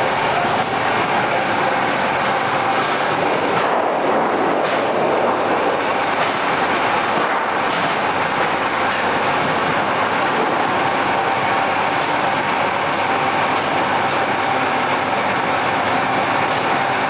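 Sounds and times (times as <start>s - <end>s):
machine running loudly: 0.0s - 17.0s.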